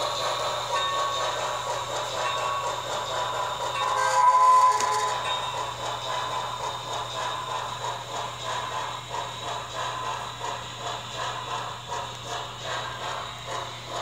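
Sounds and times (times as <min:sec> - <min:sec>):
model steam locomotive chuffing: 0:00.0 - 0:14.0.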